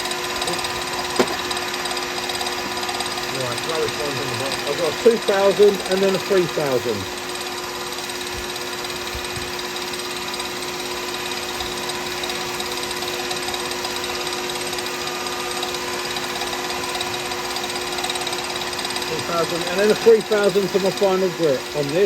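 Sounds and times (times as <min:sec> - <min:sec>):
wood lathe motor hum: 0:00.0 - 0:22.0.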